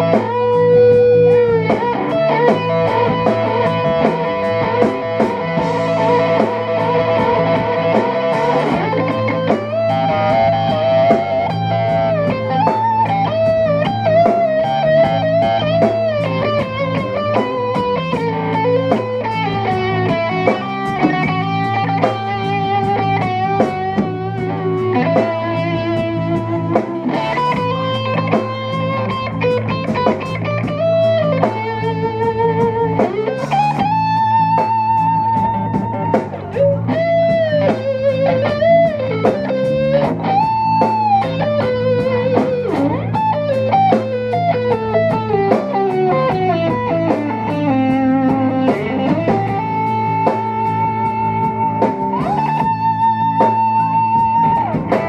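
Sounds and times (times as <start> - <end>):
bass guitar: 0.0 - 55.0
drums: 0.0 - 55.0
electric guitar lead: 0.0 - 55.0.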